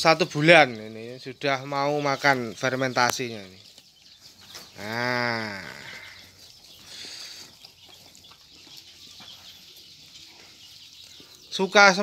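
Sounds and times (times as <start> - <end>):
lambs chewing feed: 1.2 - 12.0.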